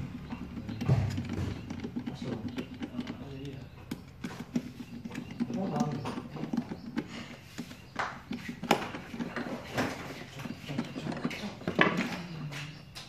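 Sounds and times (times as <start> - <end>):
clicks and knocks of plastic: 0.2 - 13.0.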